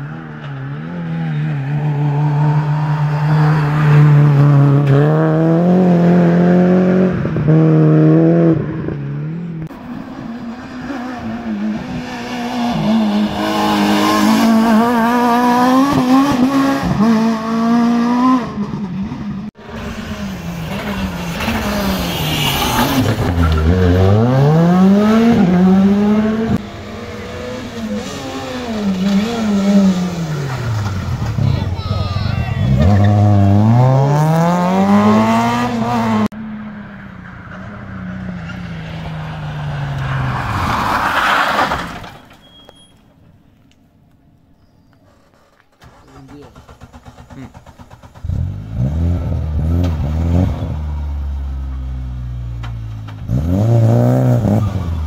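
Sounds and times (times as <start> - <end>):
rally car engine revving: 0.0 - 42.0, 45.8 - 55.0.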